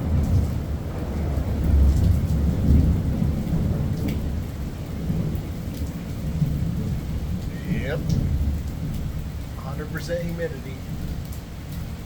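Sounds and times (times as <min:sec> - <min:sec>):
heavy rain downpour: 0:00.0 - 0:12.0.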